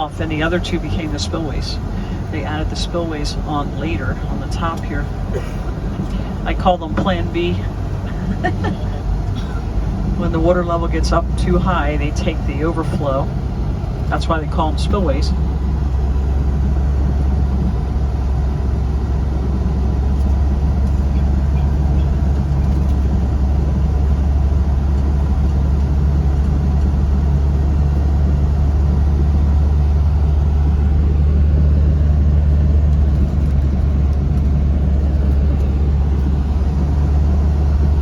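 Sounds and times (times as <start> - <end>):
vehicle engine and road drone: 0.0 - 38.0.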